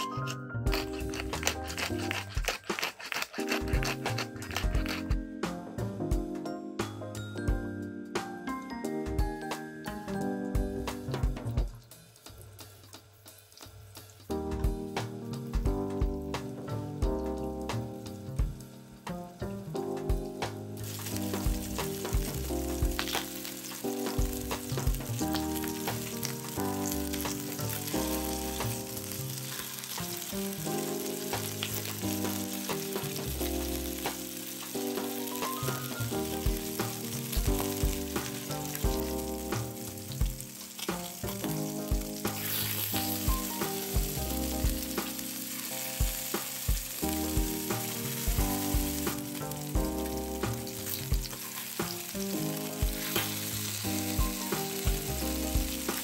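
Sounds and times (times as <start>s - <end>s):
fish sizzling in a frying pan: 0.0s - 5.3s, 9.0s - 56.0s
background music with beat: 4.0s - 29.2s, 30.0s - 45.3s, 45.9s - 56.0s.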